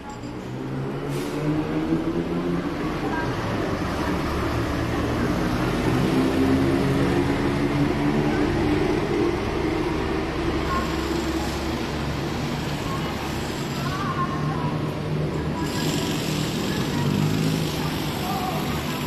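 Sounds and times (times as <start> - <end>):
hum of passing traffic: 0.0 - 19.0.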